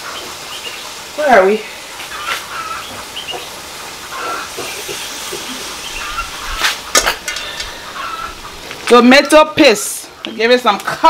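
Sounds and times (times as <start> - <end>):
simmering pot hissing: 0.0 - 11.0.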